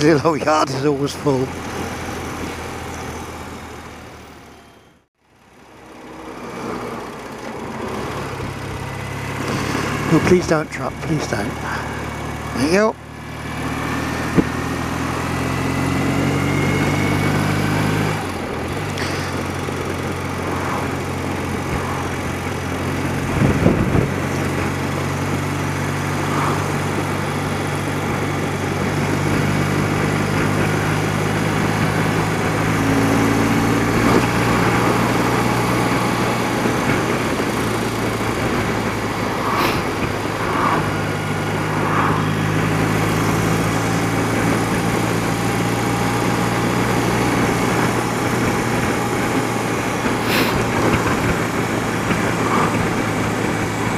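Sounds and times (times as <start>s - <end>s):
wind and road noise: 0.0s - 53.9s
motorcycle engine running: 5.2s - 53.9s.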